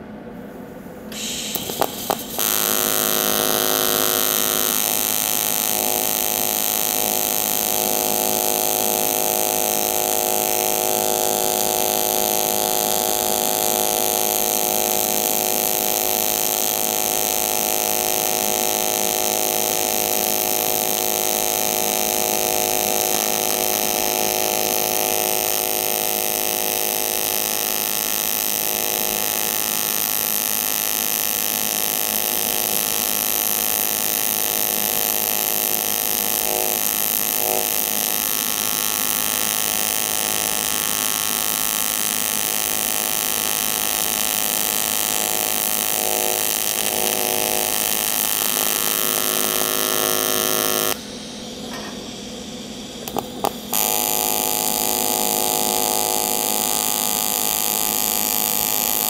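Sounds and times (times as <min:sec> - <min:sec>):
welding arc buzzing and hissing: 0:01.1 - 0:59.0.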